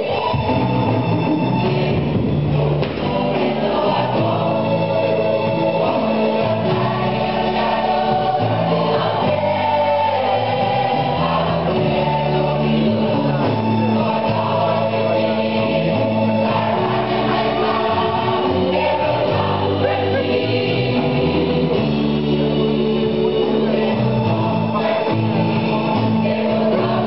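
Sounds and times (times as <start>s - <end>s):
children's choir singing in harmony: 0.0s - 27.0s.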